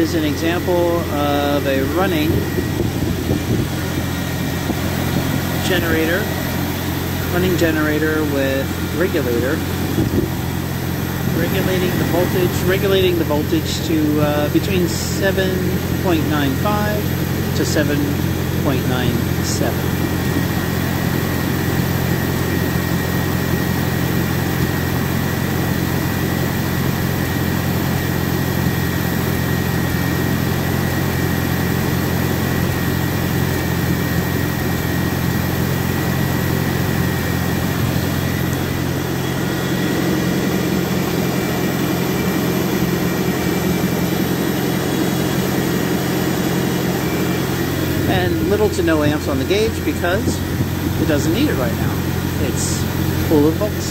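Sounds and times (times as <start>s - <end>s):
tractor engine idling: 0.0s - 53.9s.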